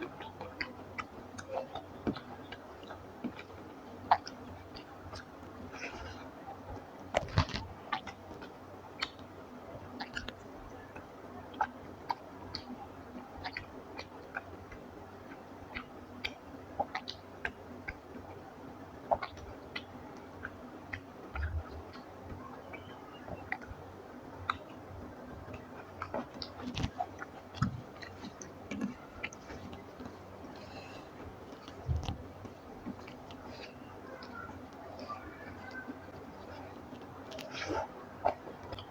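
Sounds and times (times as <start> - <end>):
wet chewing mouth clicks and smacks: 0.0 - 38.9.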